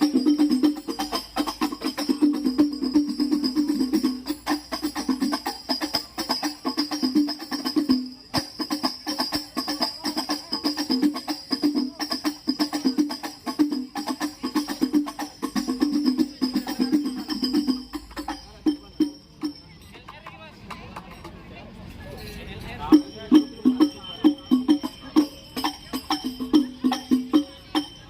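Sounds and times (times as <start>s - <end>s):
frame drums with jingles: 0.0s - 28.0s.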